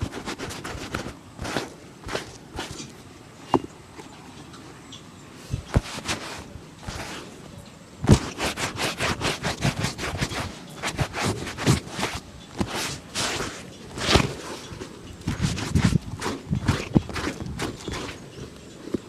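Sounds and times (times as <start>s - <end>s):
brush rubbing on shoe: 0.0s - 2.9s, 5.6s - 7.3s, 8.0s - 19.0s.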